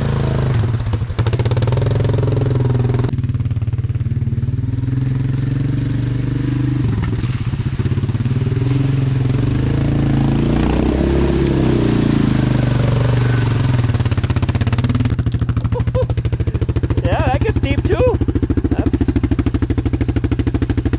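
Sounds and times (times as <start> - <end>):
atv engine revving: 0.0 - 20.9.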